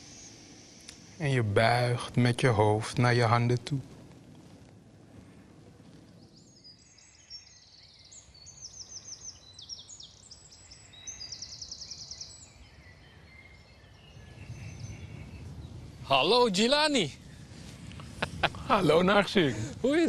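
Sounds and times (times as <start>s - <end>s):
songbirds trilling: 0.0s - 3.7s, 5.3s - 20.0s
faint low background noise: 0.0s - 20.0s.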